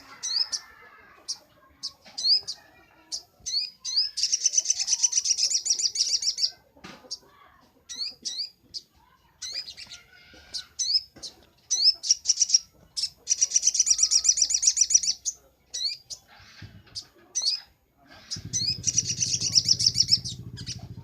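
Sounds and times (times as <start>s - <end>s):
bird chirps and trill: 0.0s - 21.0s.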